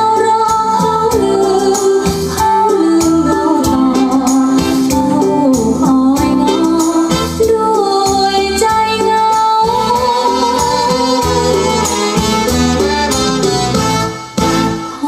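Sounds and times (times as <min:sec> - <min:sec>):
music with singing over loudspeakers: 0:00.0 - 0:15.0.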